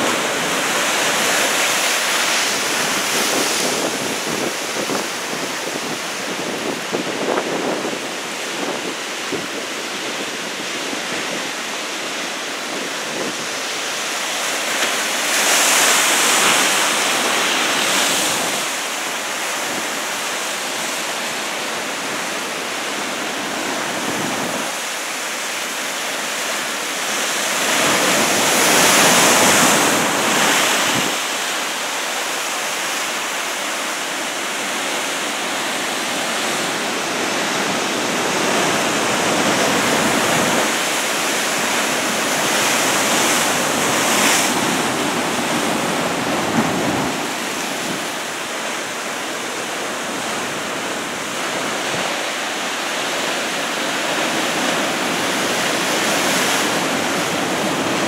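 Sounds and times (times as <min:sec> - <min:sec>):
heavy surf breaking: 0:00.0 - 0:58.0.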